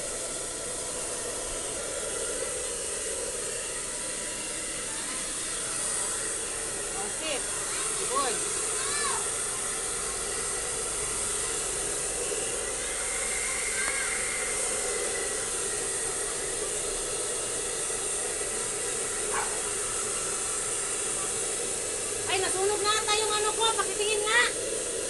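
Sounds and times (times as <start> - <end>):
hair dryer blowing: 0.0 - 25.0.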